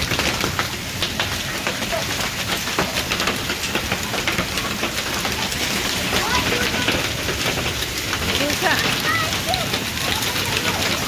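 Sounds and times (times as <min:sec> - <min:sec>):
heavy rain and hail pelting: 0:00.0 - 0:11.0.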